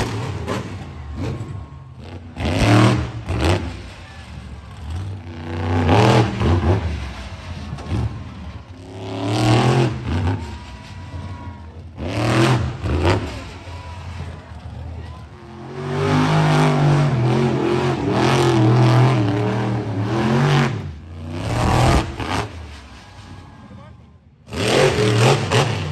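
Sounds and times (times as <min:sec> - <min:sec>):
monster truck engine revving: 0:00.0 - 0:25.9.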